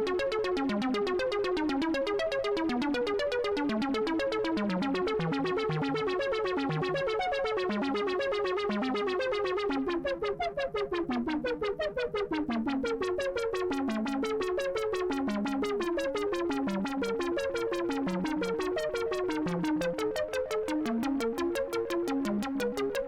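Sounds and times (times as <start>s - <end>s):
modular synthesizer sequenced notes: 0.0s - 23.0s.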